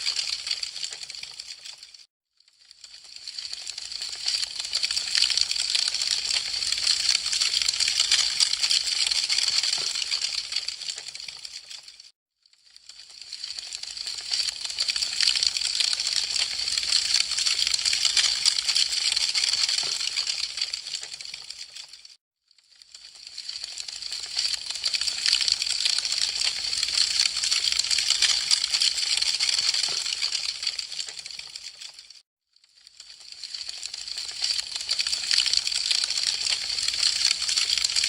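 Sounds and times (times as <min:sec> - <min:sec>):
wood fire crackling: 0:00.1 - 0:01.8, 0:02.9 - 0:11.8, 0:13.1 - 0:19.0, 0:20.0 - 0:22.0, 0:23.3 - 0:32.0, 0:33.2 - 0:38.0.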